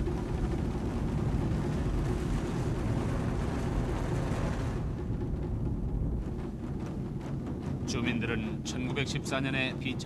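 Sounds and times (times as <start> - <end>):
low rumble of volcanic eruption: 0.0 - 10.0.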